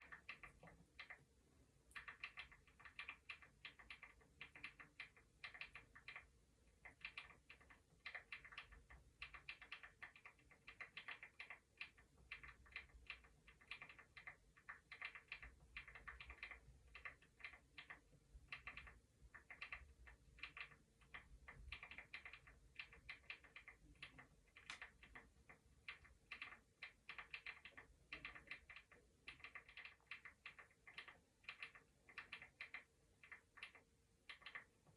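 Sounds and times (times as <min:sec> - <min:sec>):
computer keyboard typing: 0:00.0 - 0:34.9.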